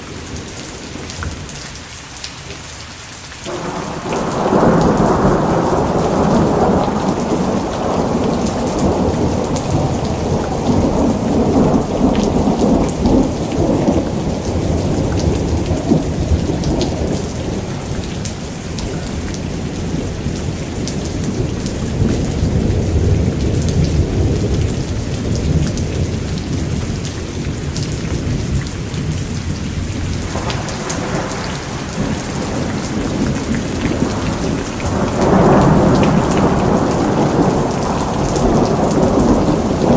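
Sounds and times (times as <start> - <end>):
steady rain: 0.0 - 39.9
thunder rumbling: 3.5 - 39.9.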